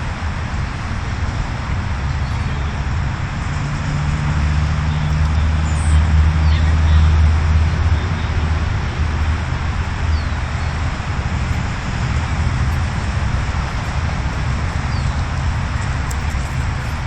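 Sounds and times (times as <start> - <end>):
road vehicle passing: 0.0 - 17.0.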